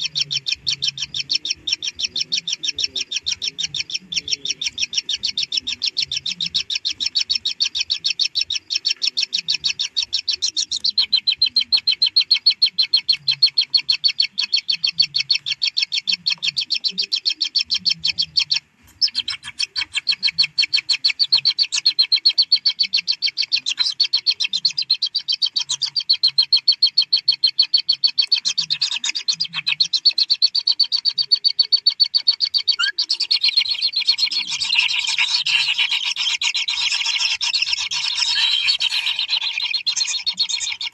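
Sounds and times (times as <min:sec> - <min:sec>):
nestlings high-pitched ticking calls: 0:00.0 - 0:40.9.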